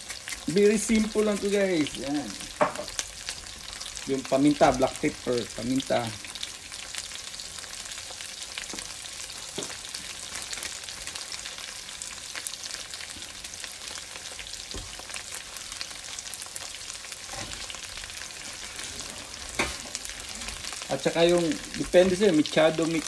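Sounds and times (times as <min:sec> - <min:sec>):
oil crackling and popping: 0:00.0 - 0:23.0
vegetables sizzling in oil: 0:00.0 - 0:23.0.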